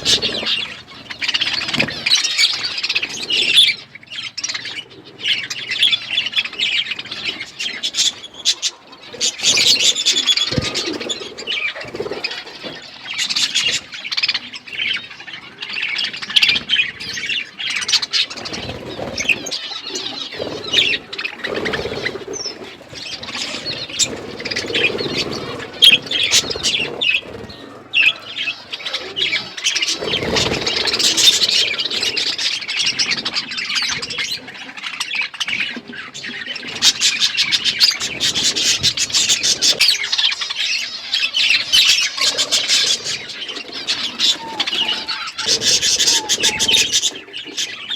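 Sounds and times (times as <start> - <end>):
wings flapping: 0.0 - 14.9, 16.0 - 47.9
budgerigars chattering and chirping: 0.0 - 47.9.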